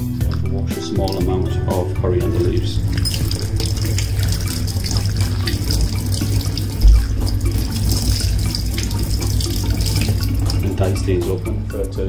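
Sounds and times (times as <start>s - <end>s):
tap water splashing: 0.0s - 1.5s, 2.5s - 11.6s.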